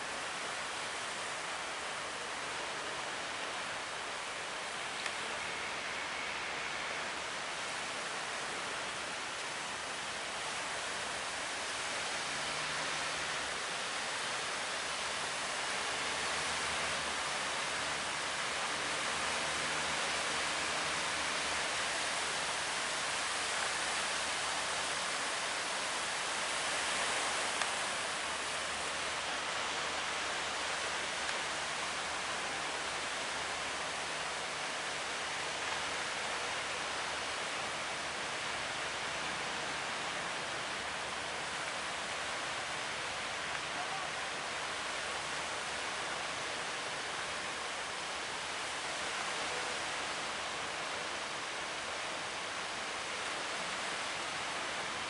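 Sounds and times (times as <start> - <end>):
sea water rushing around boat: 0.0 - 55.0.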